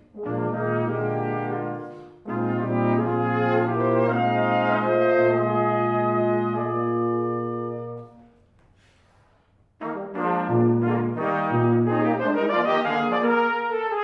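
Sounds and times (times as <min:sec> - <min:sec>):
brass quintet playing: 0:00.0 - 0:08.4, 0:09.8 - 0:14.0.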